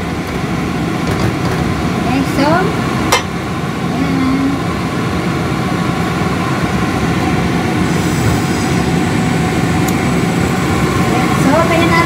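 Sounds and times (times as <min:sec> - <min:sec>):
loud rumbling with low hum: 0:00.0 - 0:12.0.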